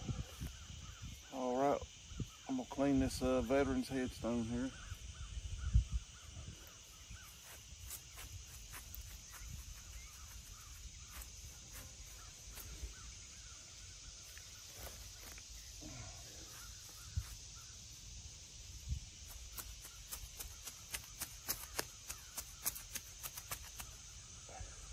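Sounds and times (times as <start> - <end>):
steady high hiss: 0.0 - 24.9.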